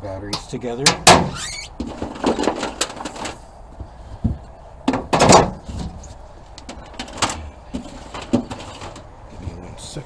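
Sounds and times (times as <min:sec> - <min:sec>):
tools clattering and scraping: 0:00.4 - 0:09.1
hard objects knocking and clunking: 0:00.9 - 0:09.1.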